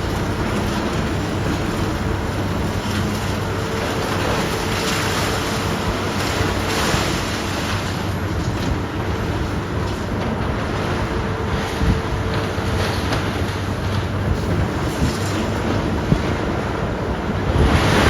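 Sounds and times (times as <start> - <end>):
diesel engine hum: 0.0 - 18.0.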